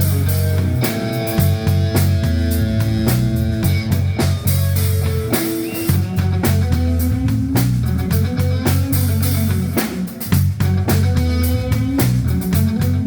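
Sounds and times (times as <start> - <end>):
bass line: 0.0 - 13.0
drum kit: 0.0 - 13.0
electric guitar: 0.0 - 13.0.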